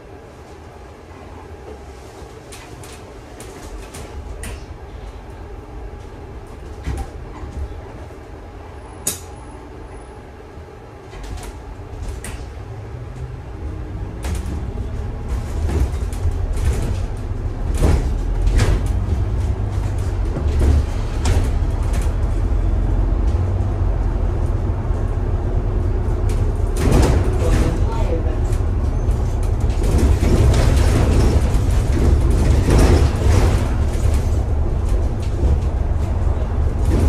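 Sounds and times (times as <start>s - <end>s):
bus engine rumble: 0.0s - 37.0s
bus body rattling: 1.6s - 37.0s.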